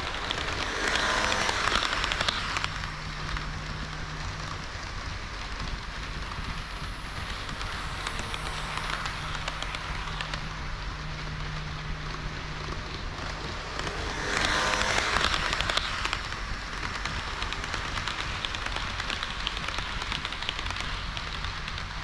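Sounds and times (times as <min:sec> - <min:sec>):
model train wheels clicking: 0:00.0 - 0:22.0.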